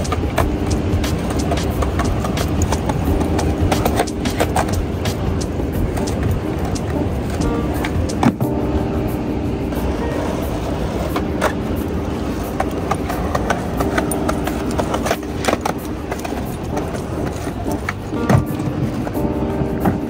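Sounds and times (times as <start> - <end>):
skateboard clacks: 0.0 - 8.9, 9.7 - 20.0
skateboard wheels rolling on pavement: 0.0 - 20.0.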